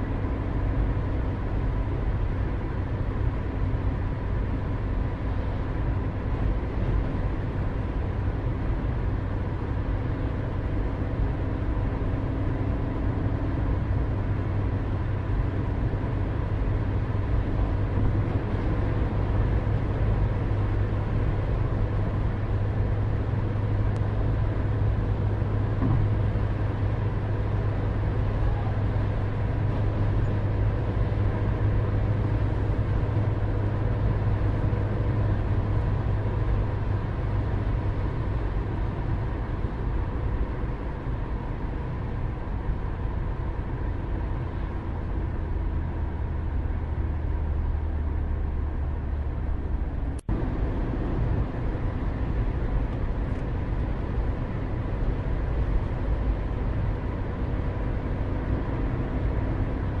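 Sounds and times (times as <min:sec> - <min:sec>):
distant town traffic rumble: 0:00.0 - 1:00.0.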